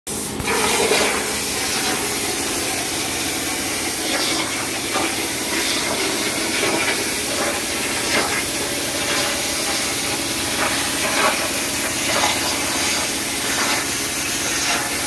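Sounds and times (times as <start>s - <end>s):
plasma cutter hissing: 0.1s - 15.0s.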